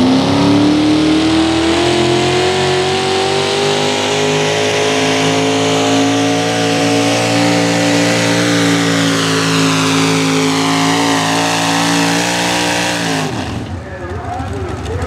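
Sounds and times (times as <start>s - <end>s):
engine running flat out: 0.0s - 15.0s.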